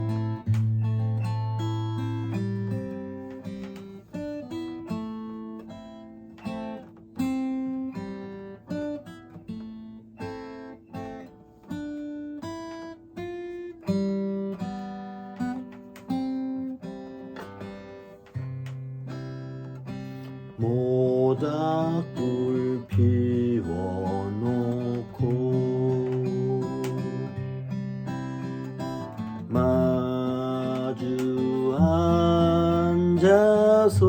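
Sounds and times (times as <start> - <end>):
acoustic guitar picking: 0.0 - 34.0.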